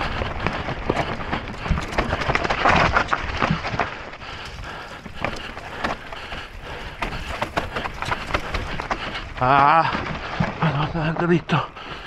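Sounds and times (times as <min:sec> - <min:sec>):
bike rattling down rocky trail: 0:00.0 - 0:12.0
tyres crunching over gravel: 0:00.0 - 0:12.0.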